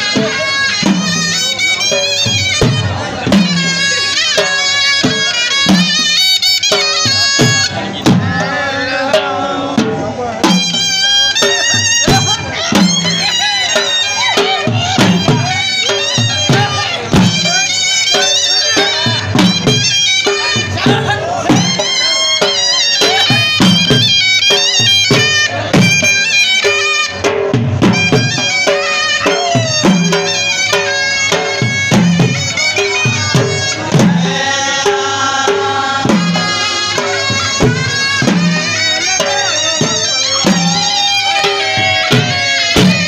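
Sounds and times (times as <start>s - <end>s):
drum beaten with sticks: 0.0s - 43.0s
shawm playing ornamented melody: 0.0s - 43.0s.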